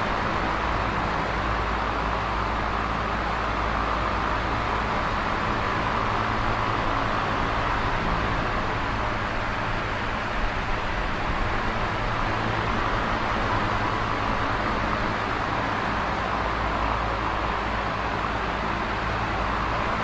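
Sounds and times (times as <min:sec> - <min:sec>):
electric fan running: 0:00.0 - 0:20.0.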